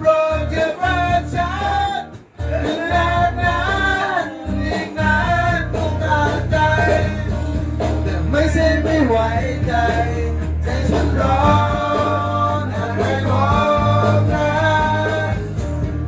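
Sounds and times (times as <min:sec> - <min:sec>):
person singing: 0:00.0 - 0:07.4, 0:08.0 - 0:15.6
guitar: 0:00.0 - 0:16.0
steady bass beat: 0:00.0 - 0:16.0.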